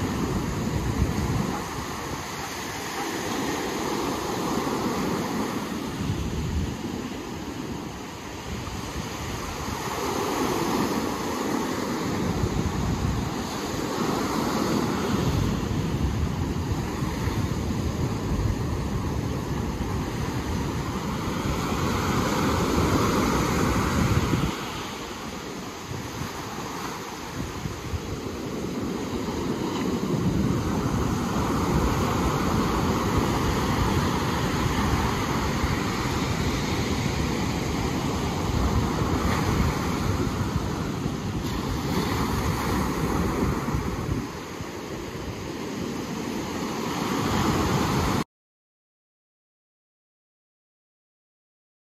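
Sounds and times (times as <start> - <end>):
ocean surf washing ashore: 0.0 - 48.2
wind rumbling on microphone: 0.0 - 48.2.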